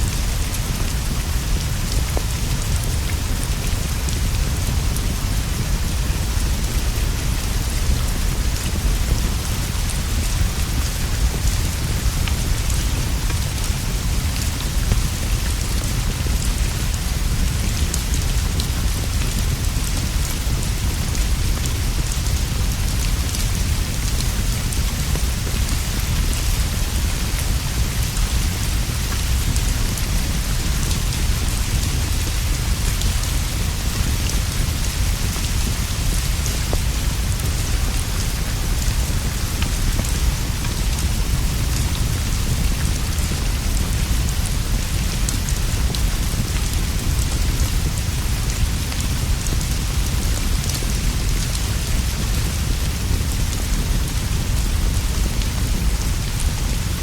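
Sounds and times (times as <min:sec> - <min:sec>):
heavy rain on leaves and roof: 0:00.0 - 0:57.0.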